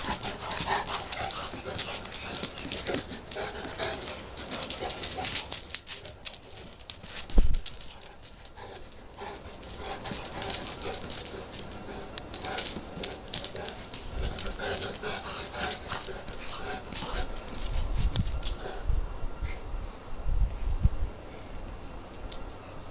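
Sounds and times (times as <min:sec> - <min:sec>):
dogs scuffling on paving: 0:00.0 - 0:18.9.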